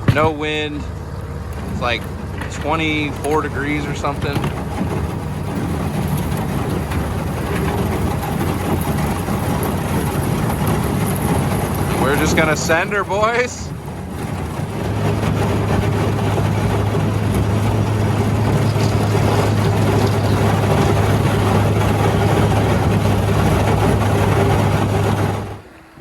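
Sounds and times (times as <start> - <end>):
boat motor humming: 0.0 - 26.0
water rushing past hull: 0.0 - 26.0.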